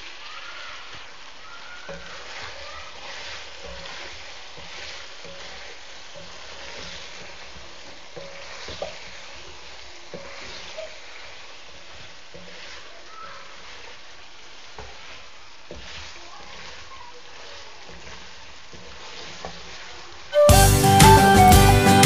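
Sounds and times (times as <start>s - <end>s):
curry sizzling in a wok: 0.0s - 21.9s
wooden spatula scraping pan: 0.9s - 20.2s.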